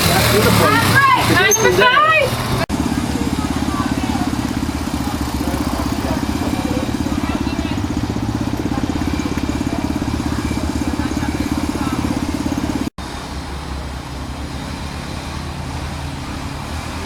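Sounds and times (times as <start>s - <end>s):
quad bike engine running: 0.0s - 17.0s
steady engine hum: 0.0s - 17.0s.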